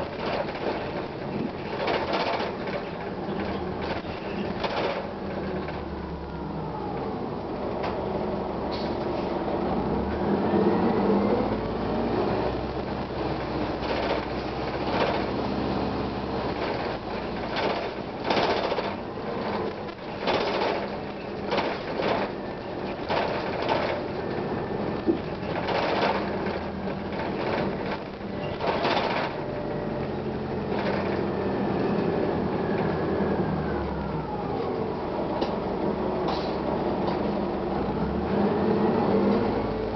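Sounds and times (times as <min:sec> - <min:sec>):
bus interior ride noise: 0:00.0 - 0:39.9.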